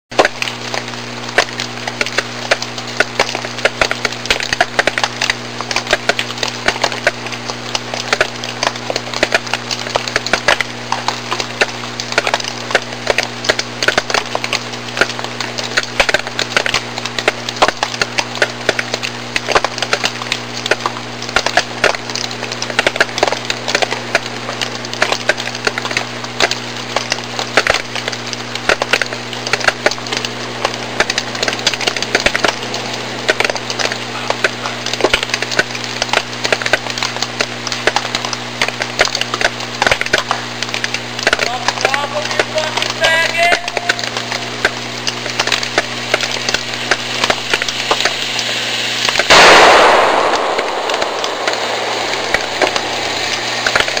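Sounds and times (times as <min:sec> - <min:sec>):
dense irregular crackling: 0:00.1 - 0:54.0
low electrical hum: 0:00.2 - 0:54.0.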